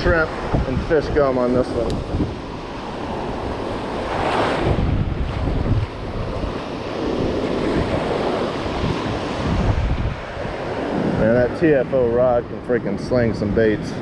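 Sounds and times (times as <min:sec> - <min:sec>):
surf washing up beach: 0:00.0 - 0:14.0
wind buffeting microphone: 0:00.0 - 0:14.0.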